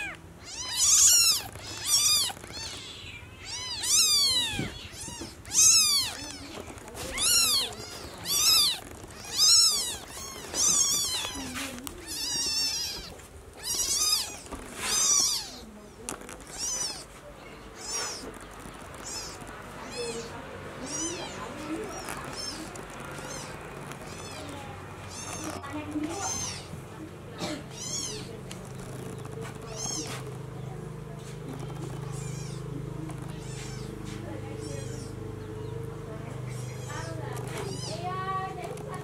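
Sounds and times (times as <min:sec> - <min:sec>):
kitten mewing: 0:00.0 - 0:15.7, 0:16.4 - 0:26.8, 0:27.4 - 0:28.4, 0:29.0 - 0:30.5, 0:31.4 - 0:35.2, 0:36.4 - 0:39.0.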